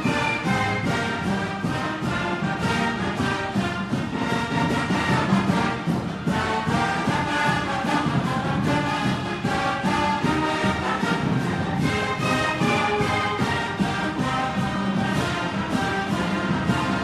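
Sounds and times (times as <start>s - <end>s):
orchestral background music with brass: 0.0s - 17.0s.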